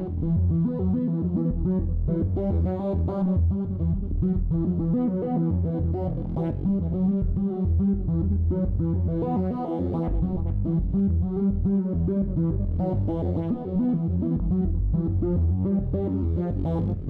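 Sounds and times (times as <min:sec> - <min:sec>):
deep synth bass line: 0:00.0 - 0:17.0.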